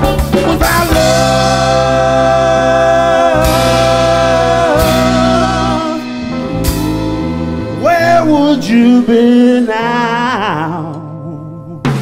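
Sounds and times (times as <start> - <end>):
rock band music: 0.0 - 12.0
man singing with vibrato: 0.4 - 12.0.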